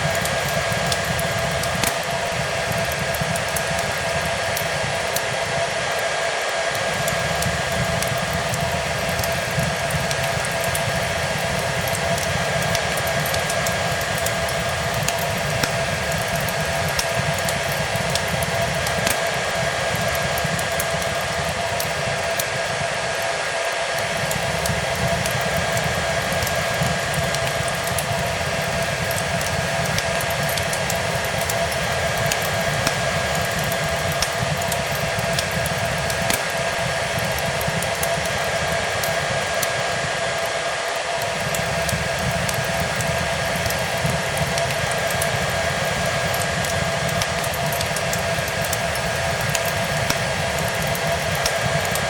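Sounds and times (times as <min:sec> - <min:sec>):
fireplace crackling: 0:00.0 - 0:23.3, 0:23.9 - 0:52.0
hair dryer running: 0:00.0 - 0:52.0.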